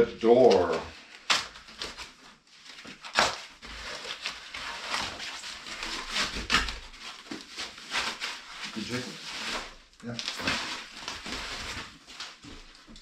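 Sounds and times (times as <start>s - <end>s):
plastic wrapping rustling: 0.2s - 13.0s.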